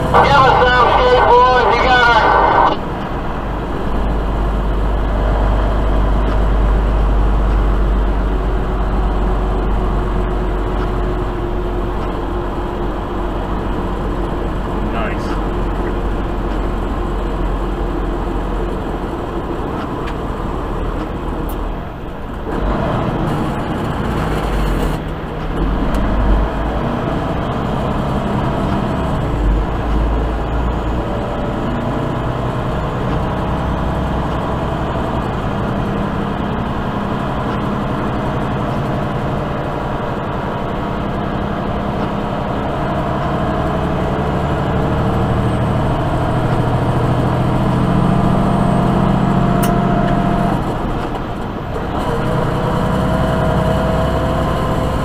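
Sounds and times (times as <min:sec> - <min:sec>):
truck diesel engine droning: 0:00.0 - 0:55.0
tyre and road noise: 0:00.0 - 0:55.0.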